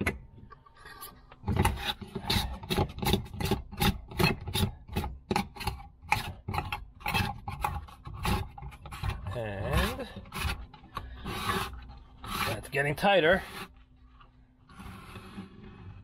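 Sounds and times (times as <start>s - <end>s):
plastic knob rubbing while screwed: 0.8s - 12.7s, 13.3s - 16.0s.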